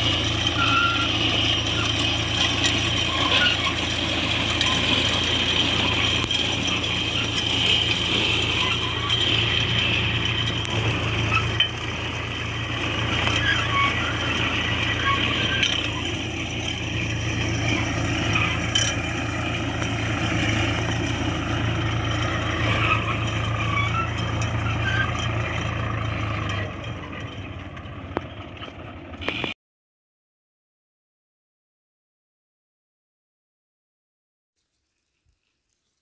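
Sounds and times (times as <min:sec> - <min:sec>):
tractor diesel engine running: 0:00.0 - 0:29.6.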